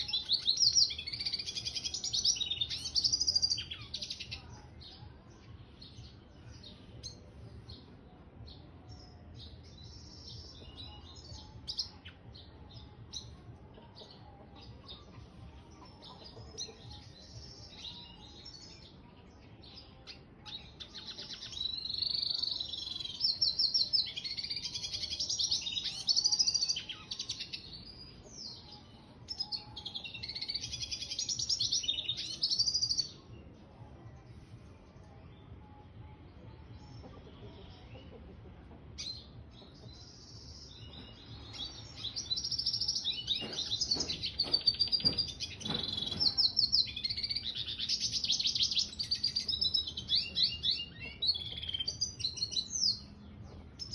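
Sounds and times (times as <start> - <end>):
finch singing: 0.0 - 33.6, 35.0 - 53.9.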